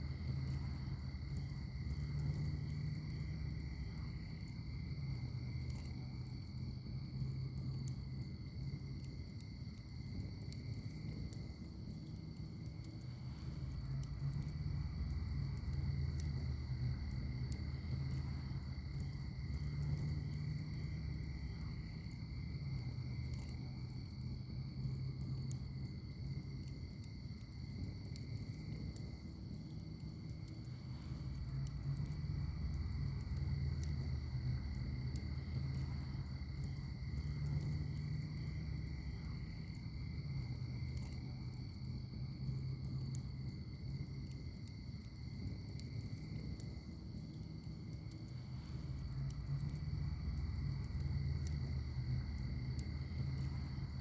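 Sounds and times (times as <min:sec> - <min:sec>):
insects trilling: 0:00.0 - 0:54.0
wood fire crackling and popping: 0:00.0 - 0:54.0.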